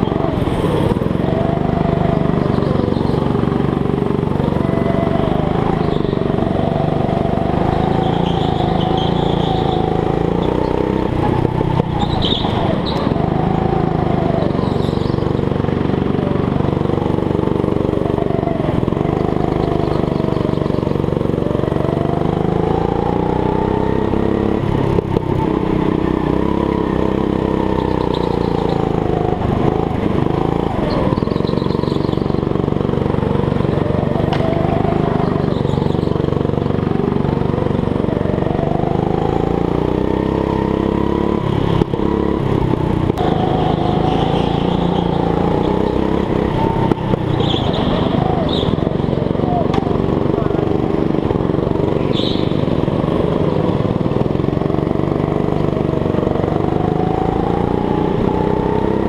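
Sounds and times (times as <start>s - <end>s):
go-kart engine running hard: 0.0s - 59.0s.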